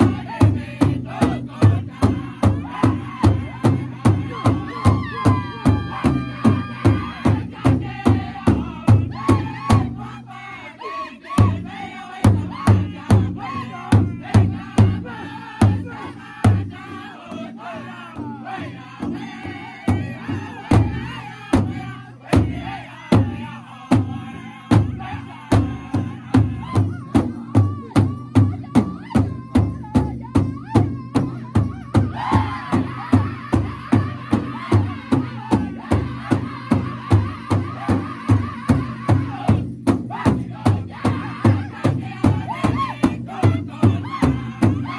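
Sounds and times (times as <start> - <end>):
large drum beating: 0.0 - 10.2, 11.4 - 44.9
group singing in unison: 0.0 - 44.9.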